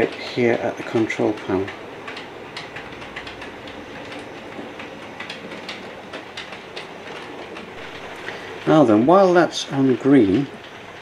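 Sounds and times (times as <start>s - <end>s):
model train running hum: 0.0s - 11.0s
wheels clicking over rail joints: 0.0s - 11.0s.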